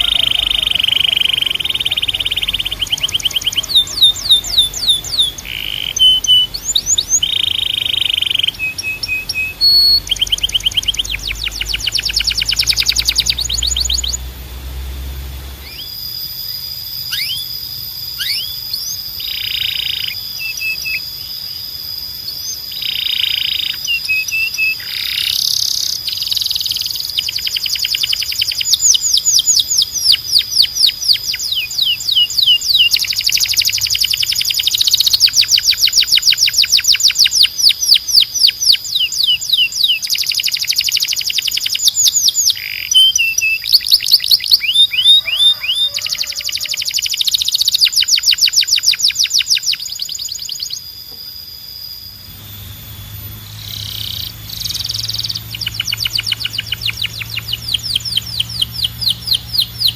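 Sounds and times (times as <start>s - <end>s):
canary singing fast trills: 0.0s - 59.9s.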